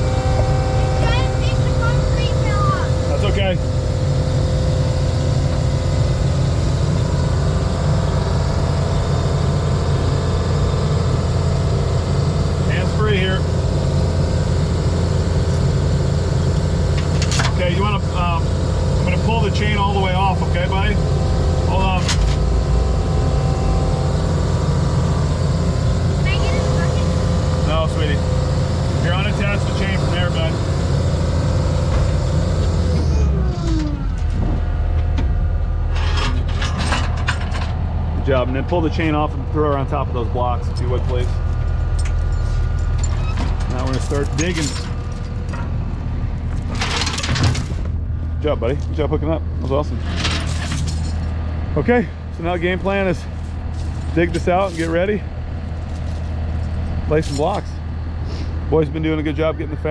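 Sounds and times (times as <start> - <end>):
digging machine engine rumbling: 0.0 - 59.9.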